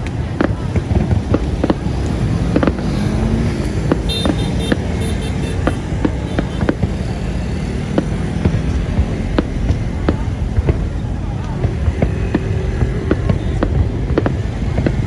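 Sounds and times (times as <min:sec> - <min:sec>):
distant fireworks popping: 0:00.0 - 0:15.0
traffic rumble: 0:00.0 - 0:15.0.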